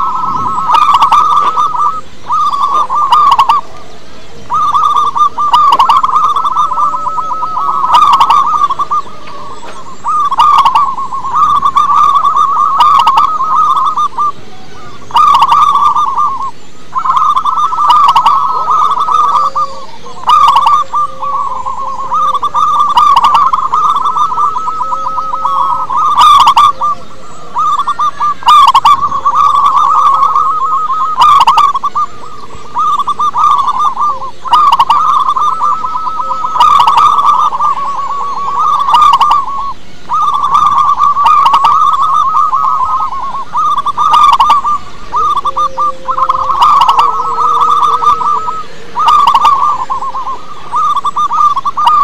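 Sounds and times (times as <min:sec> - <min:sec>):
dove cooing: 0:00.0 - 0:52.0.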